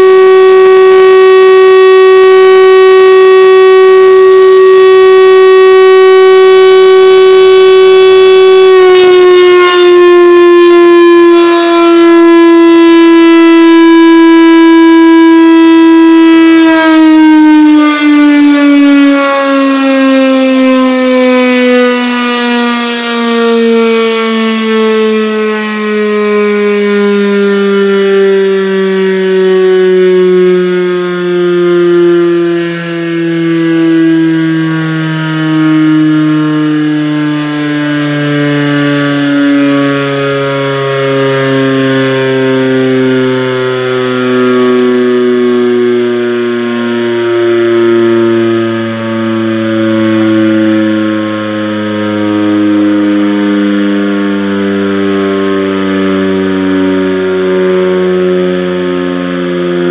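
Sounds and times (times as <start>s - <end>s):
siren wailing: 0.0s - 59.9s.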